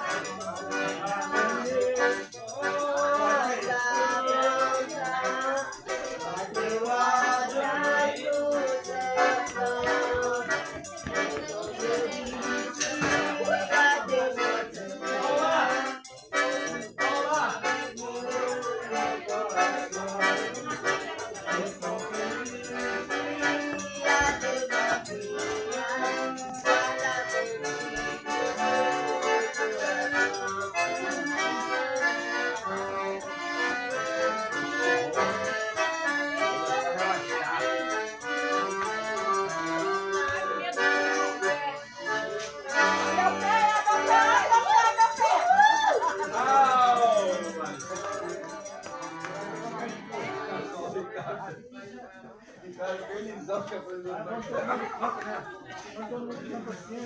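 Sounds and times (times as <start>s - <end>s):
accordion music: 0.0s - 51.0s
shaker rhythm: 0.0s - 51.2s.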